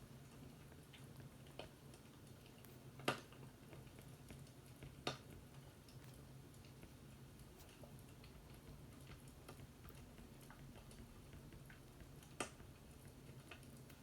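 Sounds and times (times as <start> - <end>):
faint fireplace crackling: 0.0 - 14.0
low steady hum: 0.0 - 14.0.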